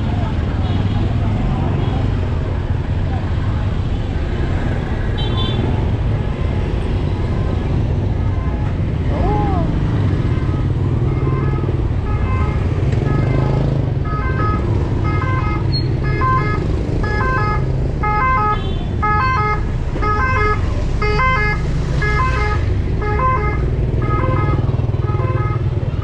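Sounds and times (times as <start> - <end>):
low rumble of street traffic: 0.0 - 26.0.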